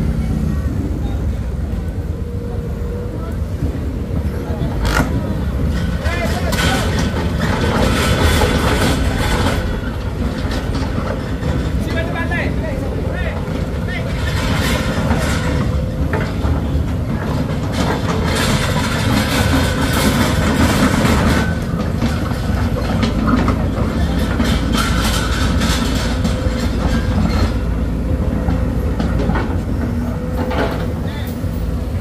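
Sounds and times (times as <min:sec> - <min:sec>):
heavy diesel machinery running: 0:00.0 - 0:32.0
metallic rattle and clatter: 0:04.8 - 0:31.6.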